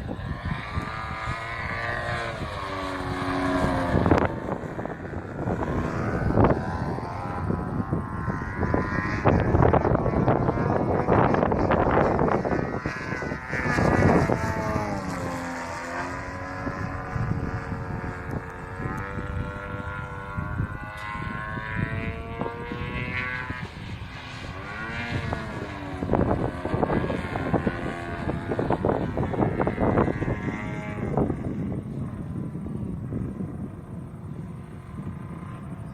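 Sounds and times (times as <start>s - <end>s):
model plane engine in flight: 0.0s - 35.9s.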